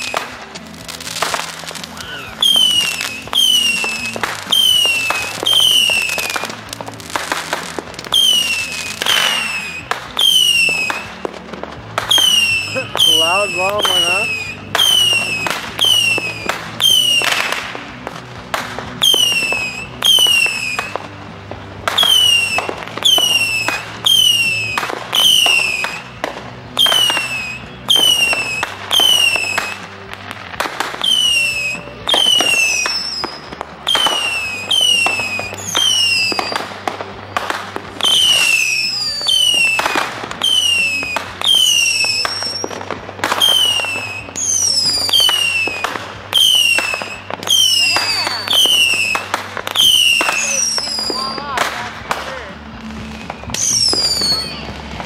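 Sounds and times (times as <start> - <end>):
fireworks cracking and whistling: 0.0 - 55.0.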